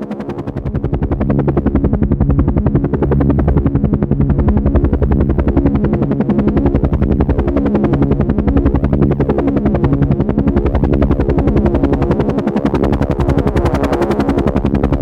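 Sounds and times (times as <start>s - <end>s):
helicopter engine tone: 0.0s - 15.0s
helicopter rotor beating: 0.0s - 15.0s.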